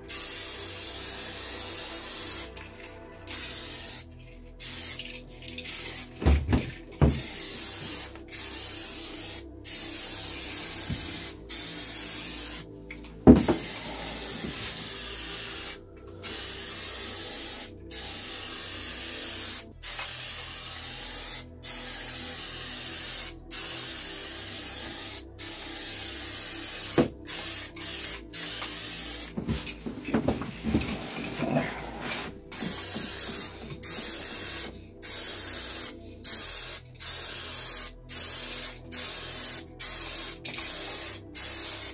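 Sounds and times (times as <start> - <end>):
spray paint hissing: 0.1 - 12.7, 13.3 - 29.8, 31.8 - 41.9.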